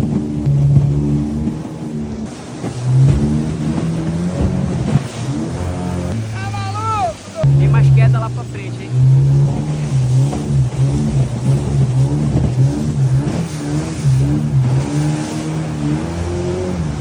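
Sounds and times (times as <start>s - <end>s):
outboard motor running hard: 0.0s - 17.0s.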